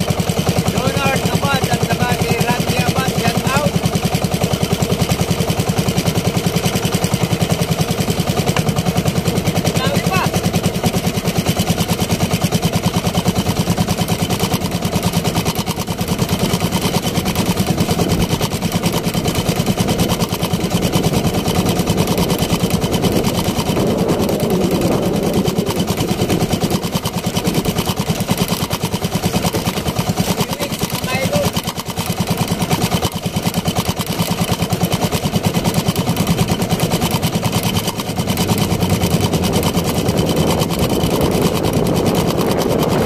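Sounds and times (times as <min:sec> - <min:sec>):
boat engine puttering: 0:00.0 - 0:43.0.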